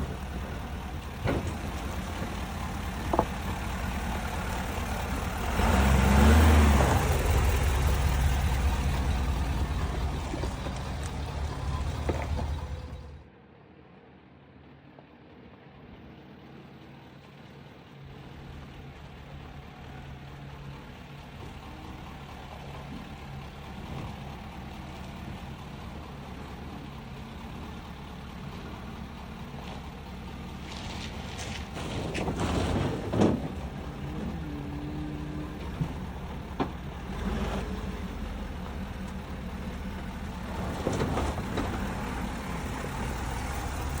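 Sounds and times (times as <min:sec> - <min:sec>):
pickup truck engine running: 0:00.0 - 0:13.2, 0:16.4 - 0:44.0.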